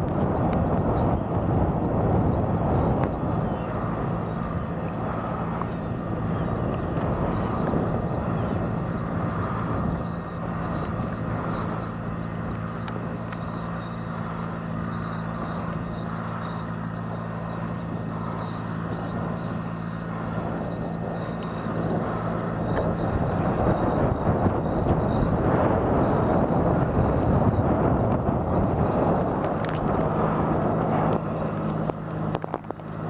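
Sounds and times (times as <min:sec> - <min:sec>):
distant tractor engine droning: 0:00.0 - 0:33.0.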